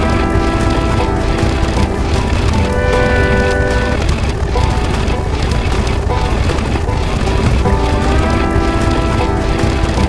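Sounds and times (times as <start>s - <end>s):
held pitched tone: 0.0s - 10.0s
music with heavy low rumble: 0.0s - 10.0s.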